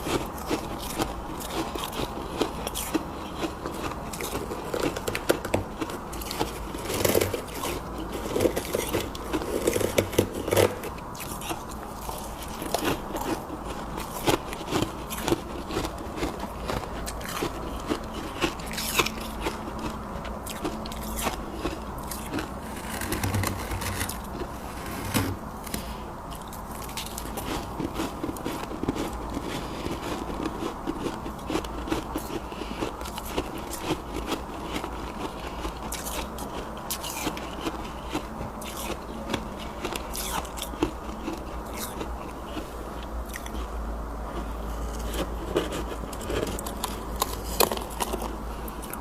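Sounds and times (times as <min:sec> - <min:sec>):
chewing ice crunches: 0:00.0 - 0:49.0.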